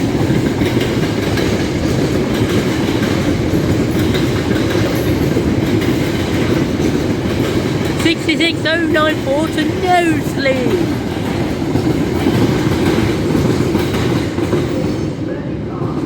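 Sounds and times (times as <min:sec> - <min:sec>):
freight train wagons rolling: 0:00.0 - 0:16.0.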